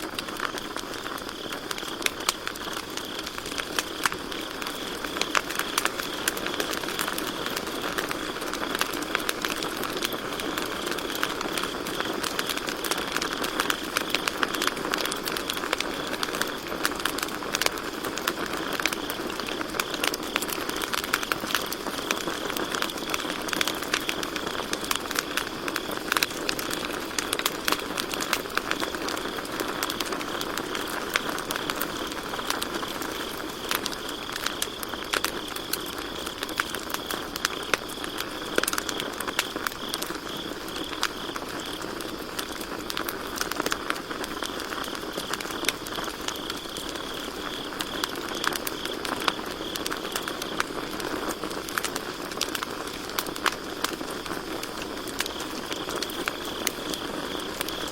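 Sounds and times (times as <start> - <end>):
campfire crackling and popping: 0.0 - 57.9
crickets chirping: 0.0 - 57.9.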